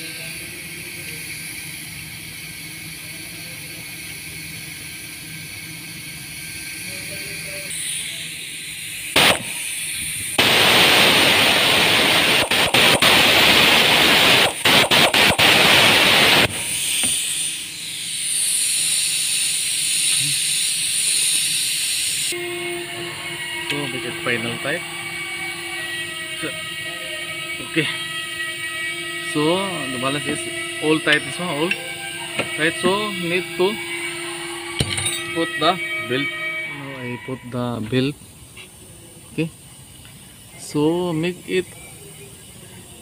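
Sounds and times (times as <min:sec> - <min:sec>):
impact wrench running: 0:01.0 - 0:22.4, 0:23.2 - 0:36.5.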